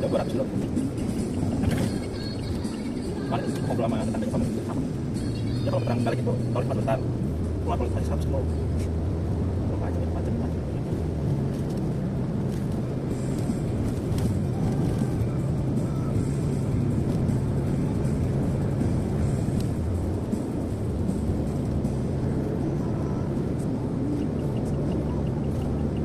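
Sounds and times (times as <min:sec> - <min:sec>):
car engine and tyres droning: 0:00.0 - 0:26.0.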